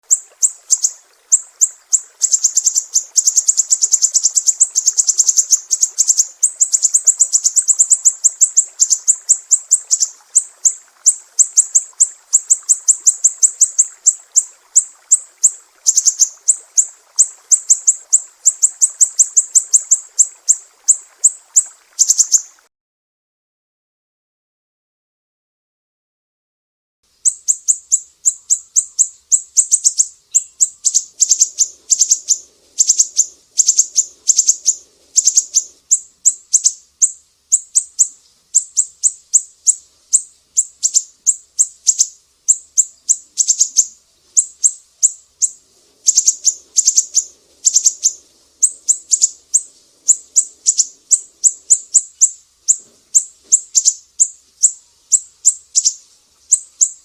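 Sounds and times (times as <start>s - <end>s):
songbird chirping: 0.0s - 22.7s, 27.1s - 57.0s.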